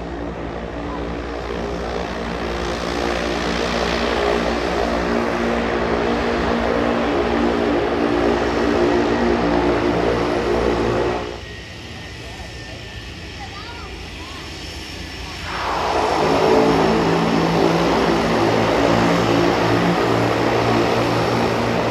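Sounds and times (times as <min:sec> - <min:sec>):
turboprop plane taxiing: 0:00.0 - 0:21.9.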